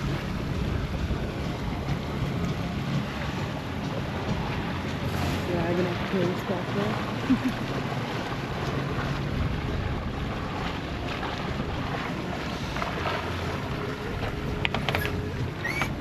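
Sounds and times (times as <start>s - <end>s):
water washing along hull: 0.0s - 16.0s
wind buffeting microphone: 0.0s - 16.0s.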